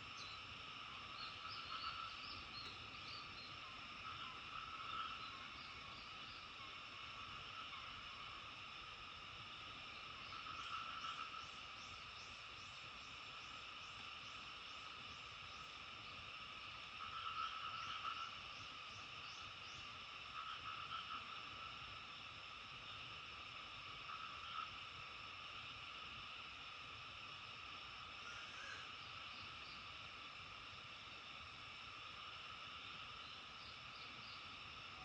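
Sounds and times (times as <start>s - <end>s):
frogs croaking: 0.0s - 35.0s.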